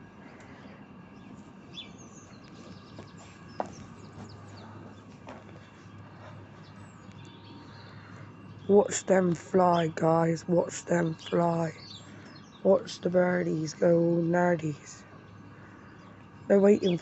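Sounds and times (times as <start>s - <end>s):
birds chirping faintly: 0.0s - 17.0s
low background noise: 0.0s - 17.0s.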